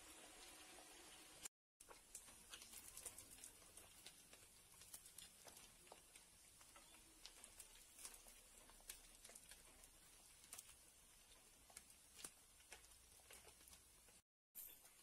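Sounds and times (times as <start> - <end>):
deep-frying in hot oil: 0.0 - 15.0.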